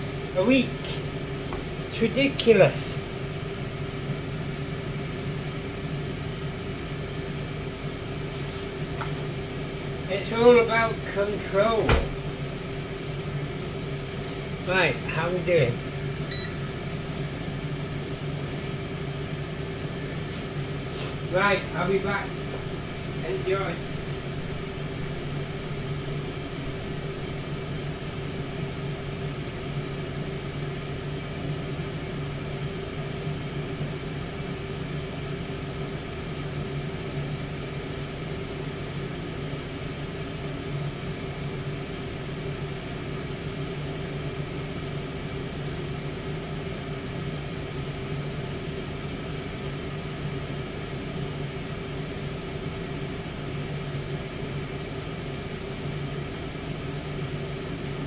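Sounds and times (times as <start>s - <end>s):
air fryer fan humming: 0.0s - 58.0s.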